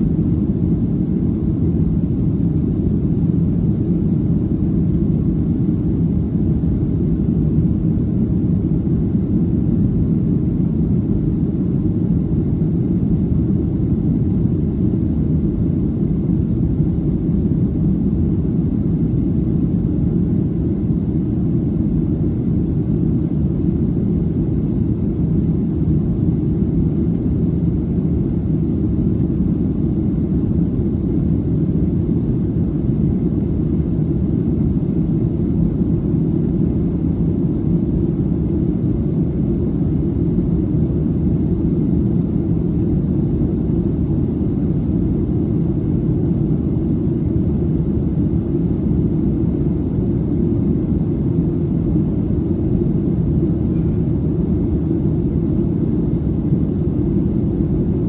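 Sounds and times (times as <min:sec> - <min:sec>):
airplane cabin drone: 0:00.0 - 0:58.0.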